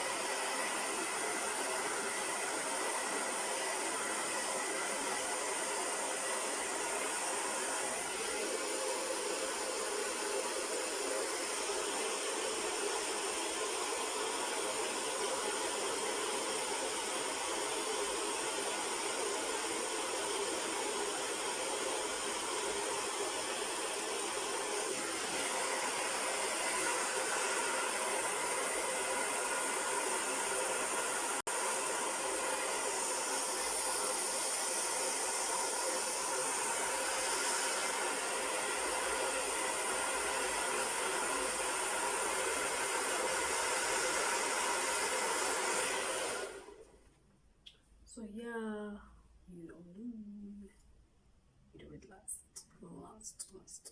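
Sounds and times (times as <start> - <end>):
hair dryer blowing: 0.0 - 47.0.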